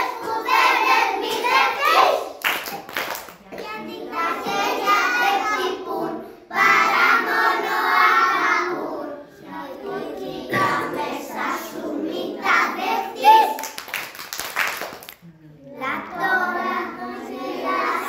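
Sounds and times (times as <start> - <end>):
children singing: 0.0 - 2.4, 3.5 - 13.6, 15.6 - 18.0.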